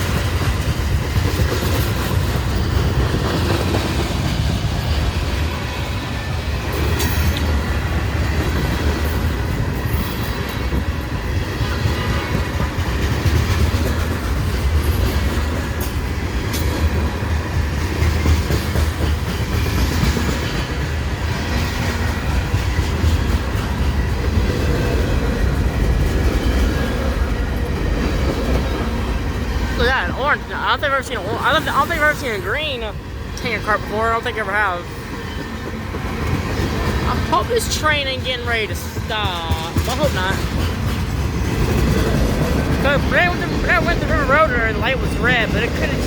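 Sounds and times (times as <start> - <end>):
freight train rolling past: 0.0 - 46.0.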